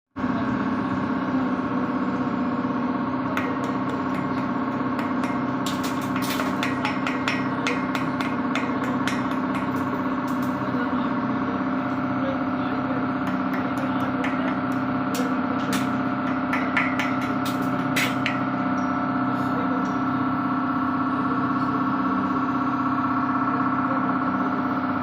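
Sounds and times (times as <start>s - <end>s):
machine humming: 0.2s - 25.0s.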